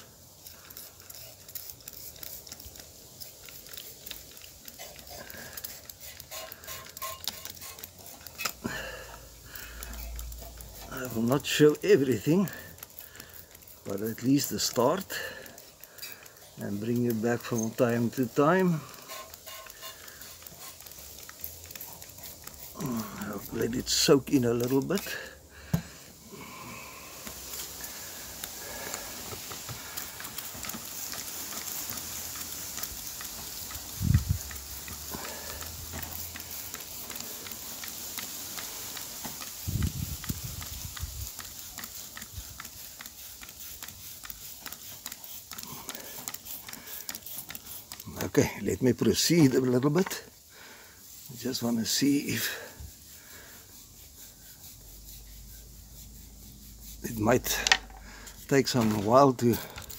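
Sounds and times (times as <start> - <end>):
cleaning solution fizzing and crackling: 0.0 - 56.8.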